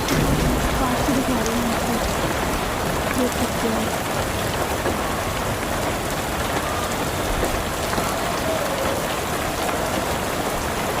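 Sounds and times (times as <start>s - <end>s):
rain and hail on a rooftop: 0.0s - 11.0s.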